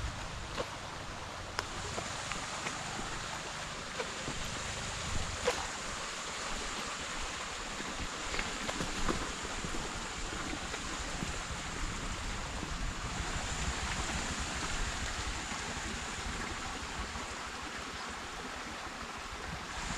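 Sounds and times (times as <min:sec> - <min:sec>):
wind buffeting microphone: 0:00.0 - 0:17.6.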